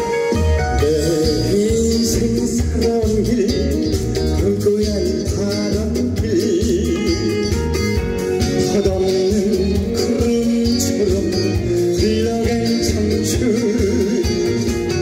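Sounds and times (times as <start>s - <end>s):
amplified instrumental accompaniment: 0.0s - 15.0s
man singing with vibrato: 0.0s - 15.0s.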